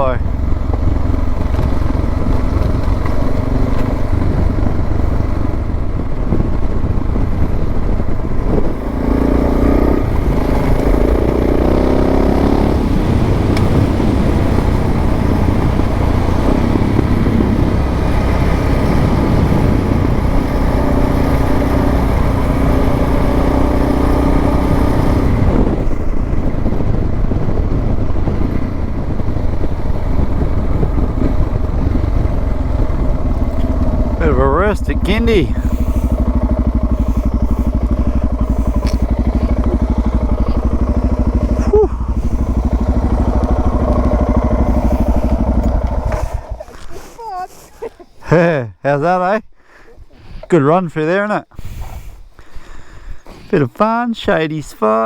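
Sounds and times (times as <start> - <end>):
motorcycle engine running: 0.0 - 48.5
wind noise: 0.0 - 54.7.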